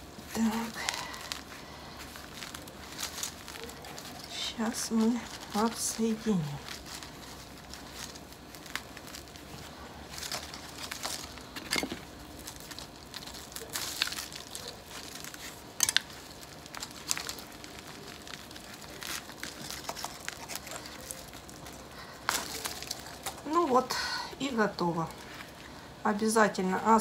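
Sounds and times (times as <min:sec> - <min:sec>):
soil and roots tearing: 0:00.0 - 0:27.0.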